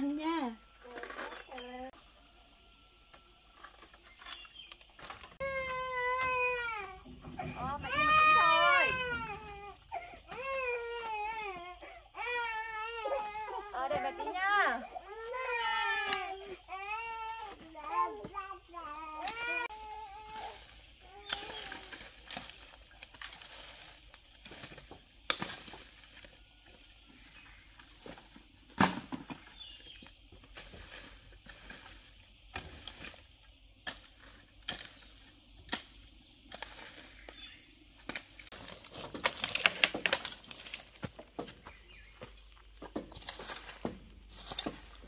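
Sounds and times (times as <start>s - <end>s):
hand tool scraping soil: 0.3s - 2.0s, 3.0s - 17.0s, 17.6s - 28.5s, 29.4s - 45.0s.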